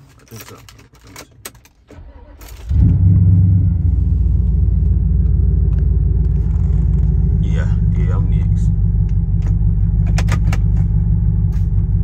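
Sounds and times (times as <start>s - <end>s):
car engine starting and idling: 1.4s - 12.0s.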